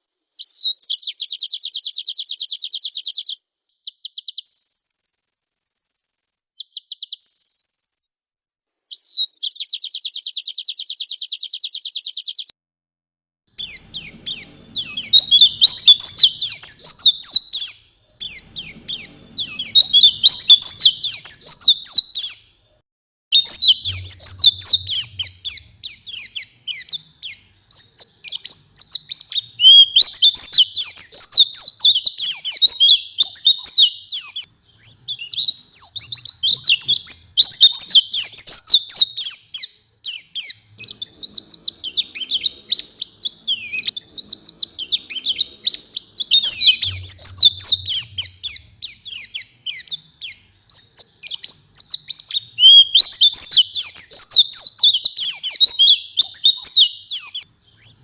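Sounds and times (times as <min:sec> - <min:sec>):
bird twittering song: 0:00.4 - 0:08.1, 0:08.9 - 0:12.5, 0:13.5 - 0:22.7, 0:23.3 - 0:58.0
bird fast trill: 0:03.9 - 0:08.1, 0:13.5 - 0:22.6, 0:23.4 - 0:58.0.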